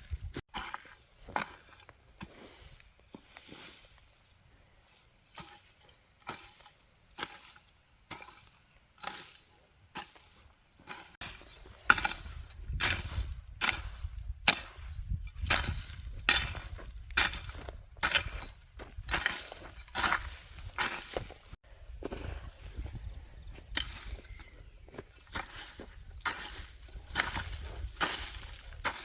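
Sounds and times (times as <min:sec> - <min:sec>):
scraping or chopping strokes: 0:00.0 - 0:24.2, 0:25.0 - 0:29.0.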